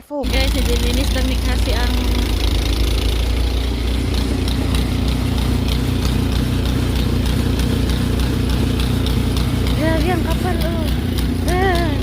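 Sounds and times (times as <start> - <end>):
small engine running: 0.2 - 12.0.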